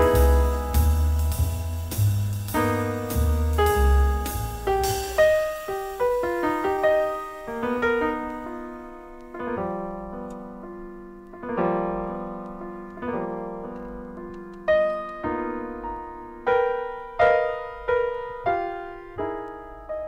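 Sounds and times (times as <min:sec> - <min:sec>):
jazz piano chords: 0:00.0 - 0:20.0.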